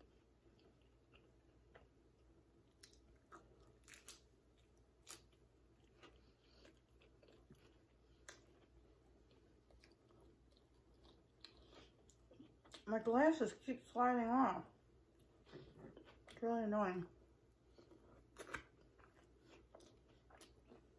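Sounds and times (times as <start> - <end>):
faint chewing with small crunches: 0.0 - 20.9.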